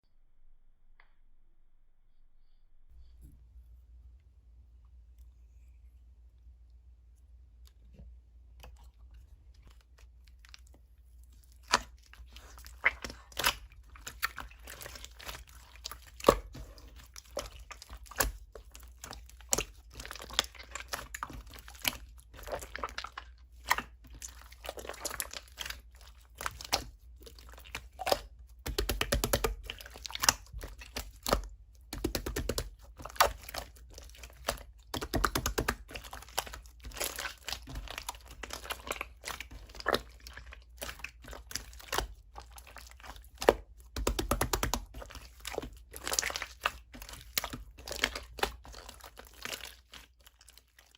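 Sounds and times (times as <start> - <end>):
crinkling and rustling objects: 7.5 - 50.9.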